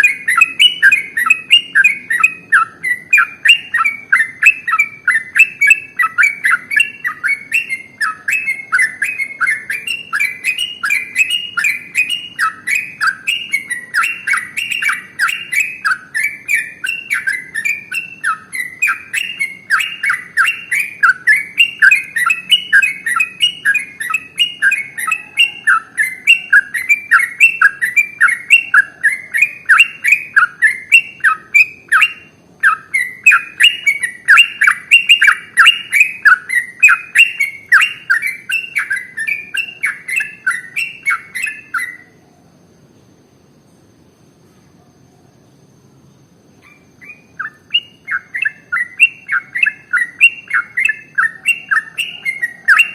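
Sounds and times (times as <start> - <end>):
bulbul singing rapid chirps: 0.0 - 42.2, 46.3 - 52.9.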